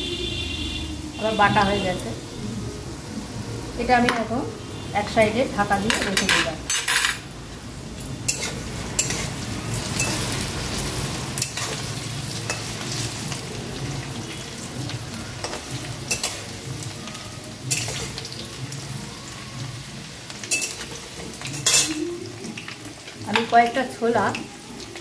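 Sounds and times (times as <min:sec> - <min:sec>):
potatoes sizzling in hot oil: 0:01.1 - 0:25.0.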